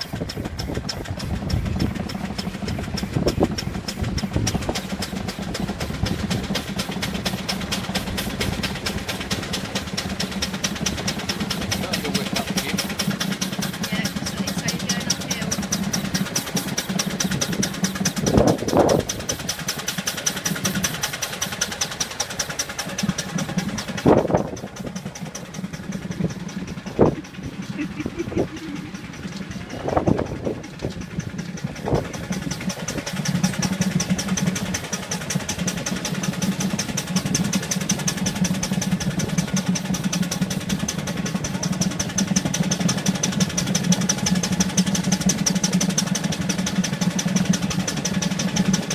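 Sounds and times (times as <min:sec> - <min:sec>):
steam traction engine working beat: 0:00.0 - 0:48.9.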